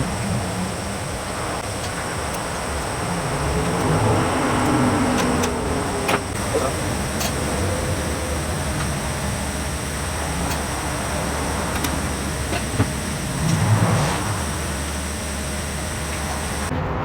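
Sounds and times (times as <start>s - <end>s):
machine humming: 0.0s - 16.7s.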